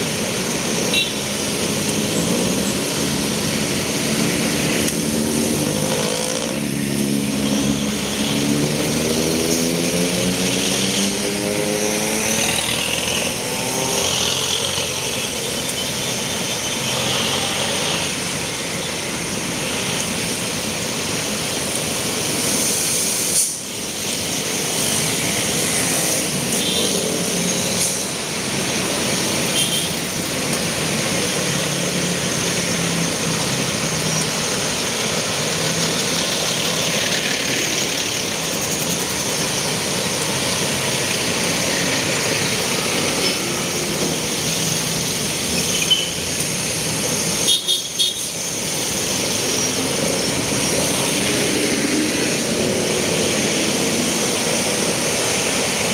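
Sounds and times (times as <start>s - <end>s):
street traffic rush: 0.0s - 55.9s.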